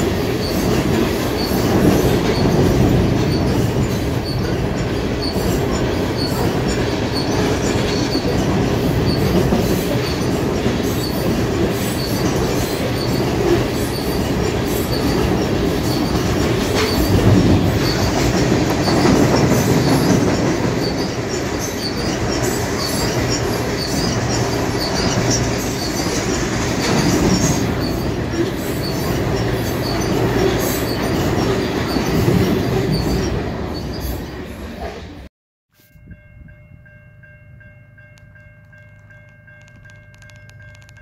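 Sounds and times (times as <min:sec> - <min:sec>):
freight train rumbling past: 0:00.0 - 0:35.3
faint train wheel squeal: 0:00.0 - 0:36.2.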